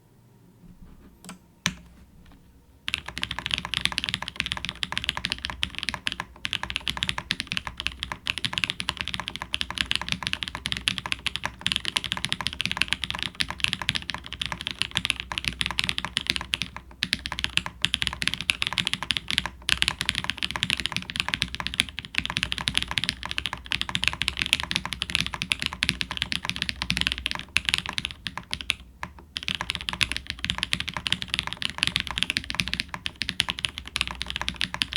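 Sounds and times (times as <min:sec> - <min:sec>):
mechanical keyboard typing: 0:02.9 - 0:34.9.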